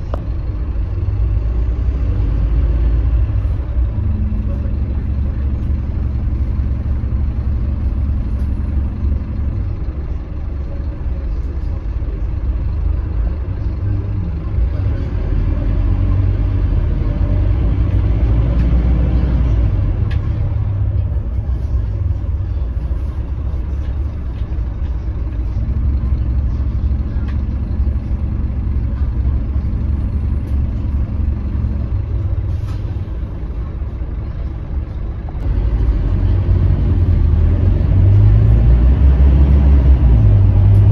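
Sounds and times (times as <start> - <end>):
bus engine low drone: 0.0 - 40.9.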